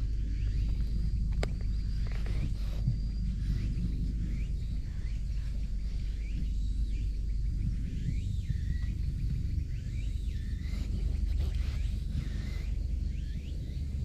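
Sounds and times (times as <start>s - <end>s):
birds whistling calls: 0.0s - 14.0s
steady low rumble: 0.0s - 14.0s.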